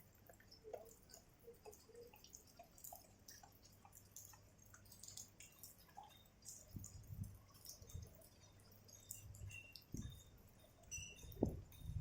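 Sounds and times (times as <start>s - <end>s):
rainwater dripping: 0.0s - 12.0s.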